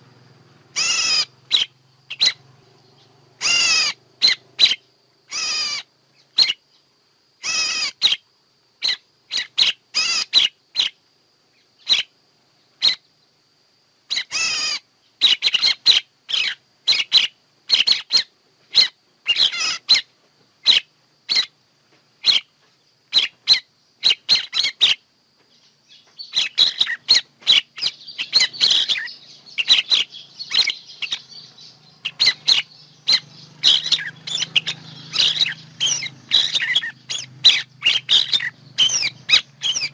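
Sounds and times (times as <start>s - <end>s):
recorded bird chirping: 0.0s - 39.9s.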